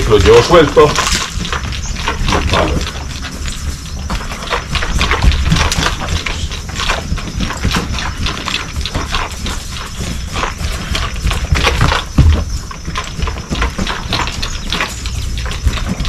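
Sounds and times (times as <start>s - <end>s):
hoofbeats: 0.0s - 16.0s
steady low rumble: 0.0s - 16.0s.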